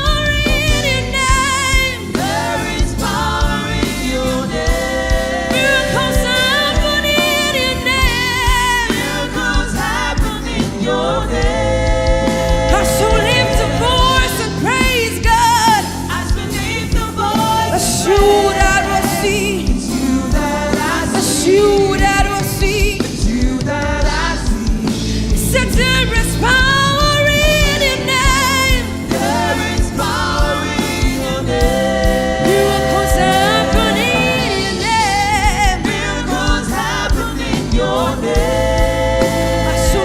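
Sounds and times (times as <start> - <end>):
gospel song singing with band: 0.0 - 40.0.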